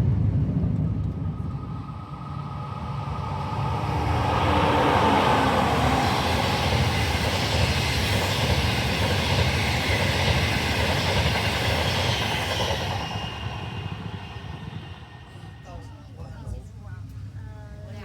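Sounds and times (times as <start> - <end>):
train rushing at speed: 0.0 - 16.4.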